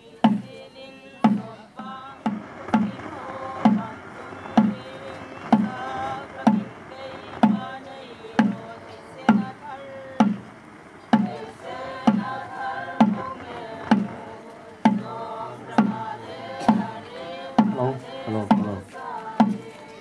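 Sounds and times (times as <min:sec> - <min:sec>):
drum beaten slowly: 0:00.0 - 0:00.6, 0:01.2 - 0:20.0
group of voices chanting: 0:00.2 - 0:20.0.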